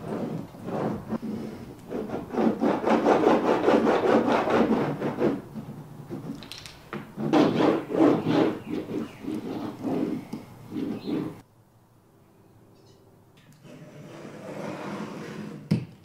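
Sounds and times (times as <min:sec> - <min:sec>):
tile scrubbing against floor: 0:00.0 - 0:11.4, 0:13.7 - 0:15.7.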